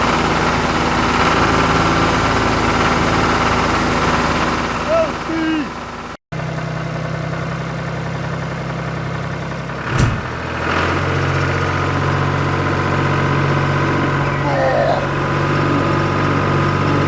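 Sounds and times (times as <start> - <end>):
small diesel engine idling: 0.0 - 17.0.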